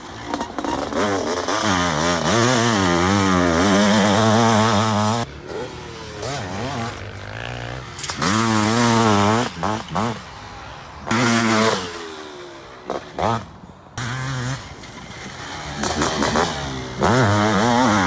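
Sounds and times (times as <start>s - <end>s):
motocross engines revving: 0.0s - 18.0s.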